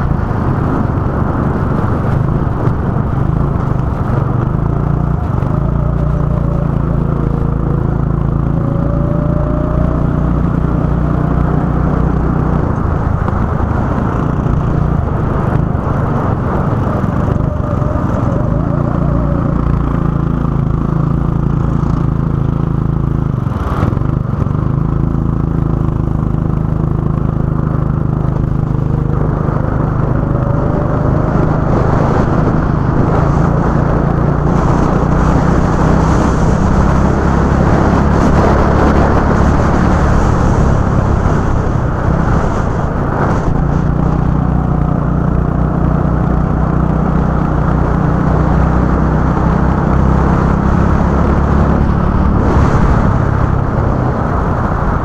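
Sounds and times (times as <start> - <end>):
go-kart engine running: 0.0 - 55.0.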